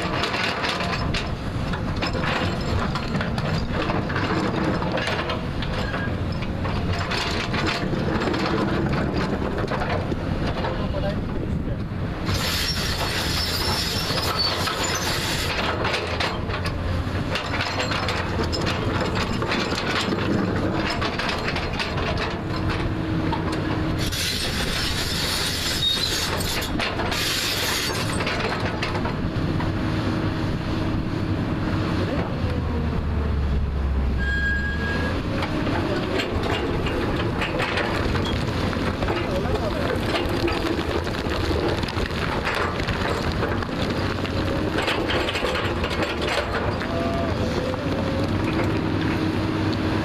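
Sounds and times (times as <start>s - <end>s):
bucket scraping and clanking on rock: 0.0s - 10.9s, 12.3s - 22.9s, 23.5s - 29.2s, 34.2s - 49.2s
diesel engine running under load: 0.0s - 50.0s.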